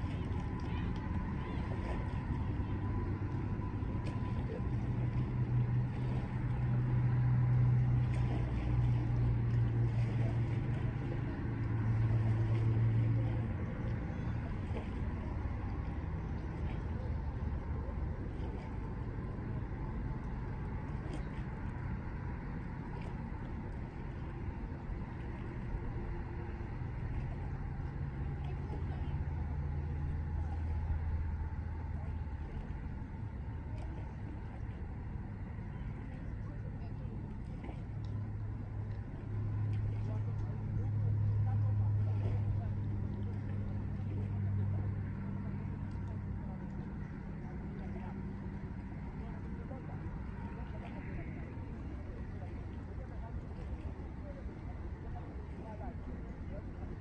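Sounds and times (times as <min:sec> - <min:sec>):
low engine drone: 0:00.0 - 0:57.0
water noise: 0:00.0 - 0:57.0
wind: 0:00.0 - 0:57.0.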